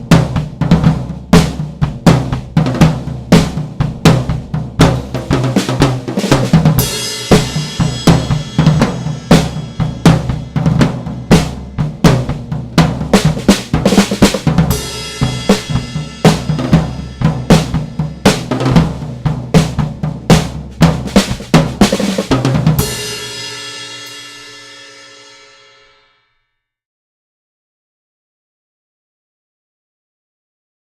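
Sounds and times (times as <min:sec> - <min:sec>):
drum kit groove: 0:00.0 - 0:26.0.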